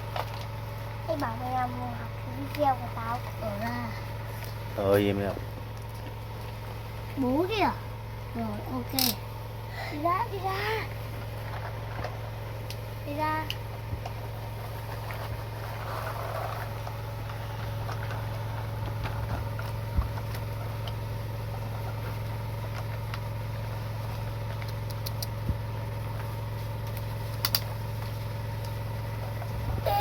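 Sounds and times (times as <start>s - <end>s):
small motor humming: 0.0s - 30.0s.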